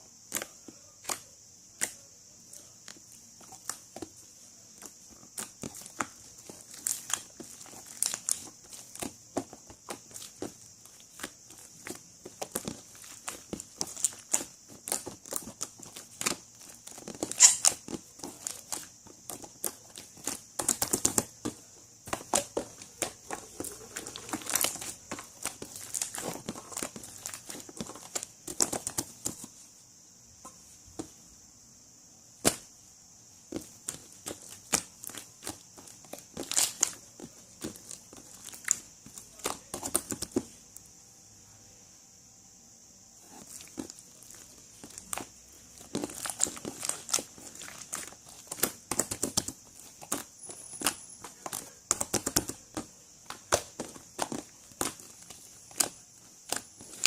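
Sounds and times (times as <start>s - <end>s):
crinkling and crackling: 0.2s - 29.8s, 33.4s - 40.6s, 43.2s - 57.0s.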